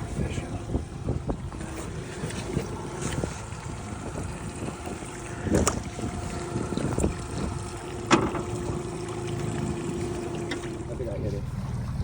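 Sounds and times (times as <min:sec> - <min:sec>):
wind on microphone: 0:00.0 - 0:10.5
outboard motor running: 0:00.0 - 0:12.0.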